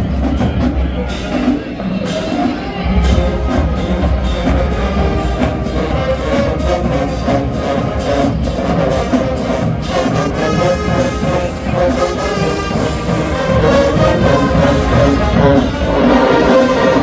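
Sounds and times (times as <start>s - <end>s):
brass section holding chords: 0.0s - 17.0s
drums: 0.0s - 17.0s.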